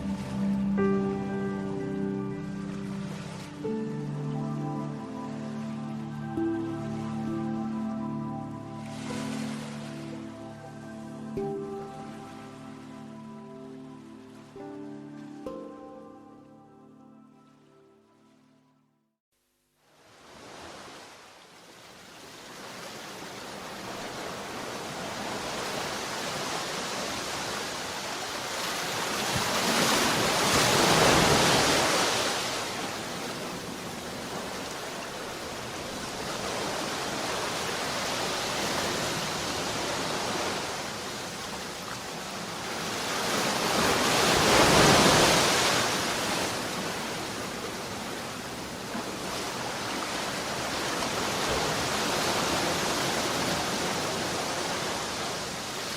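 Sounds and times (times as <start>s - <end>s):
waves breaking: 0.0s - 15.5s, 20.0s - 55.9s
sea waves washing: 0.0s - 17.2s, 20.1s - 55.9s.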